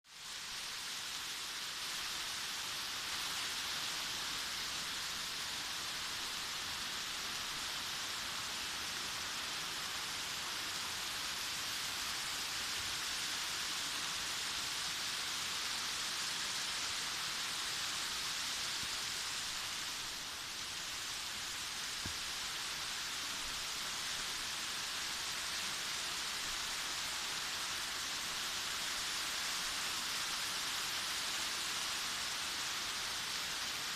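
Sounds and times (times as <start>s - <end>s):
waterfall rushing and splashing: 0.1s - 33.9s.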